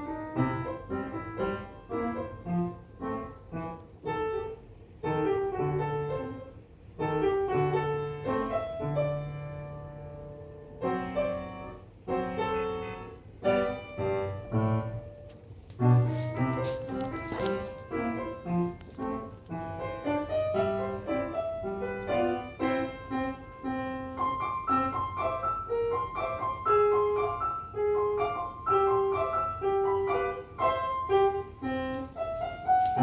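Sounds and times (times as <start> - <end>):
solo piano melody: 0.0 - 33.0.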